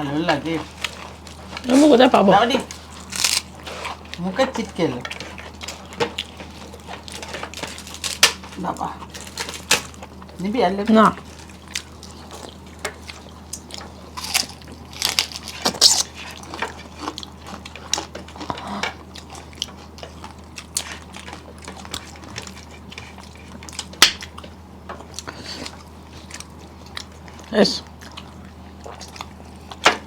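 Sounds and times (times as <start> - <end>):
people chewing: 0.0 - 30.0
steady low hum: 0.0 - 30.0.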